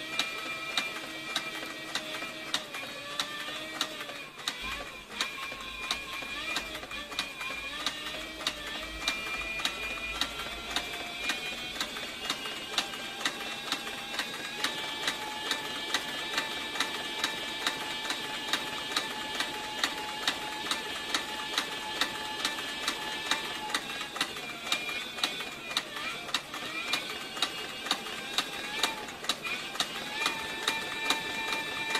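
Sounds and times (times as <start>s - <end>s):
sewing machine stitching leather: 0.0s - 31.9s
steady machine whine: 0.0s - 31.9s.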